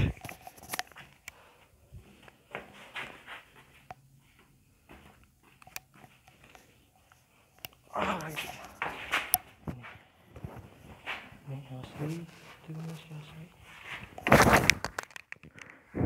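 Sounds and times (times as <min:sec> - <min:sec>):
faint footsteps: 0:00.0 - 0:14.6.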